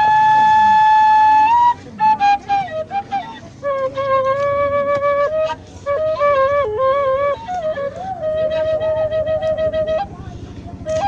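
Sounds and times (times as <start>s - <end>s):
bamboo flute melody: 0.0s - 11.0s.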